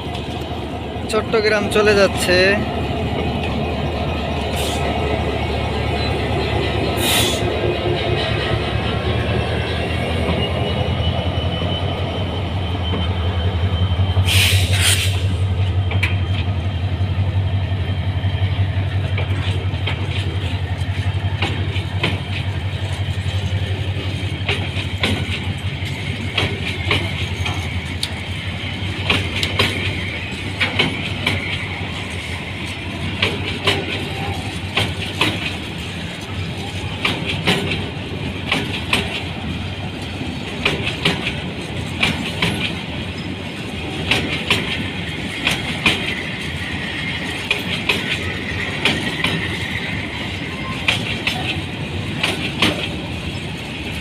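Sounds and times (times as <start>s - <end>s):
locomotive engine drone: 0.0s - 54.0s
train wheels clacking on rail joints: 2.0s - 54.0s.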